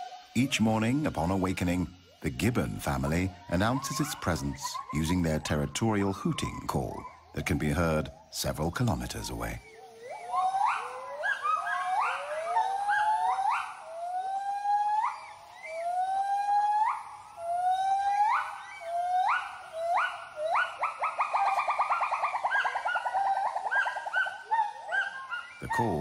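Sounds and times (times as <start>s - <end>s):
gibbons hooting: 0.0s - 26.0s.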